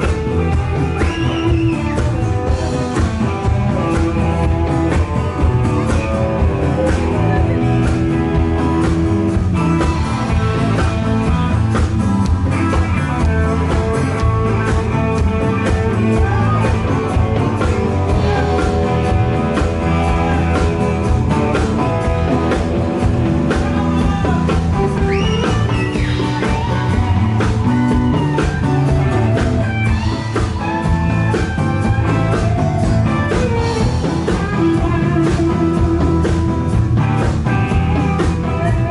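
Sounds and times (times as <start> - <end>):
bass guitar: 0.0 - 38.9
drum kit beat: 0.0 - 38.9
electric guitars: 0.0 - 38.9.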